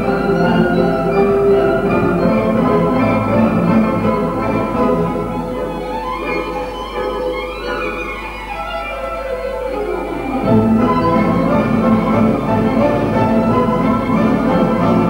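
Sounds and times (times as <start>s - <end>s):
orchestral string melody: 0.0s - 15.0s.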